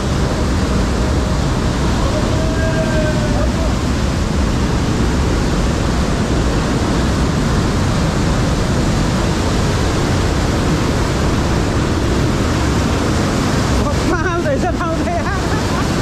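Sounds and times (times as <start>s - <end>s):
whitewater rushing through gorge: 0.0s - 16.0s.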